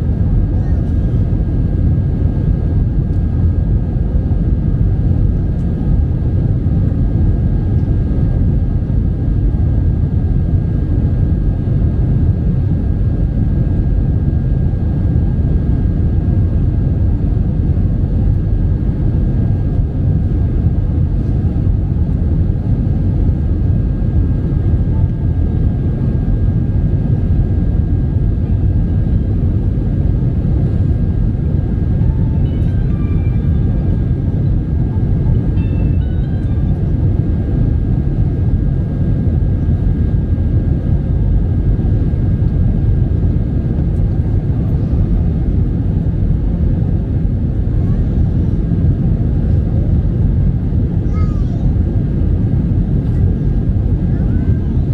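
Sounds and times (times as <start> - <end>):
aircraft cabin drone: 0.0 - 54.9
faint steady whine: 0.0 - 54.9.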